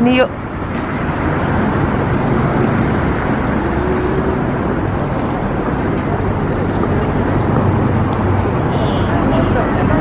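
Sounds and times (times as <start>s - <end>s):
city street noise: 0.0s - 10.0s
passing traffic: 0.0s - 10.0s.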